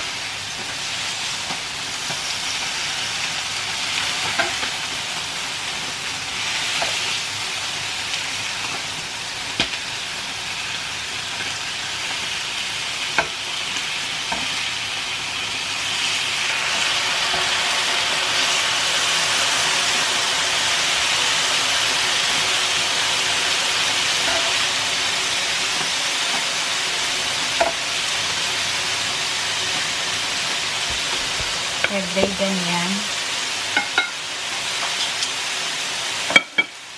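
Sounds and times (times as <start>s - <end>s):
steaks sizzling on a grill: 0.0s - 36.9s.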